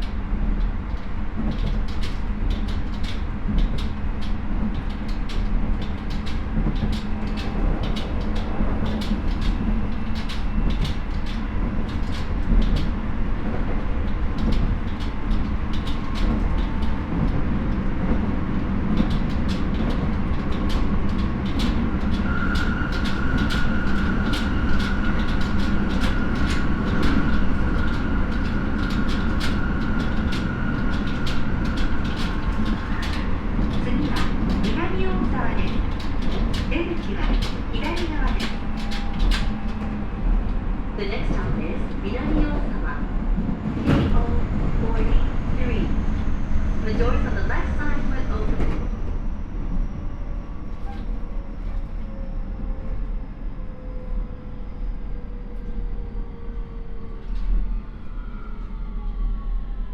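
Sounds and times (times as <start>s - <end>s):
rail clicks: 0.0s - 52.8s
train wheel and rail rumble: 0.0s - 59.9s.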